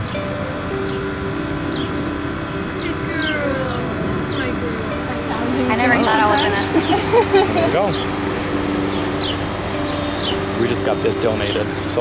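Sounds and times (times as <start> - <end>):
drawn-out mid-pitched tones: 0.0 - 12.0.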